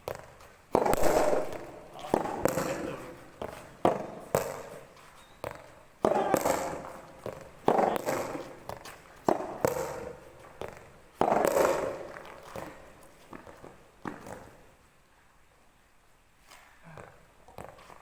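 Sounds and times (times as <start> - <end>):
rackets hitting tennis balls: 0.0 - 14.8, 16.4 - 18.0.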